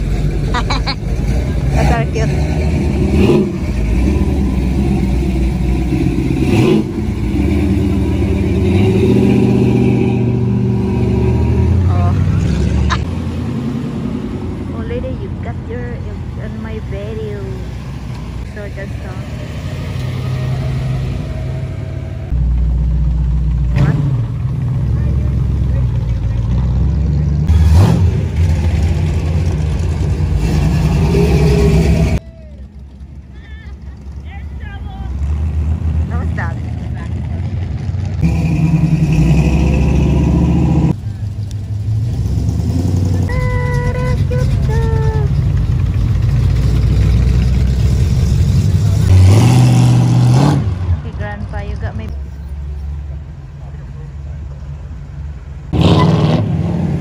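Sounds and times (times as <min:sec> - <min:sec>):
truck engine driving past: 0:00.0 - 0:57.0.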